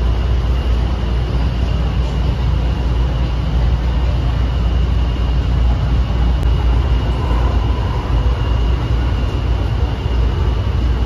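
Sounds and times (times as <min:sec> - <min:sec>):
high-pitched whine: 0:00.0 - 0:11.0
train low rumble: 0:00.0 - 0:11.0.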